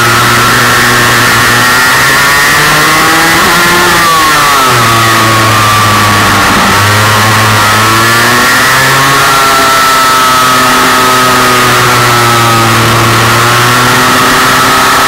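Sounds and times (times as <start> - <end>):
kart engine at high revs: 0.0 - 15.0.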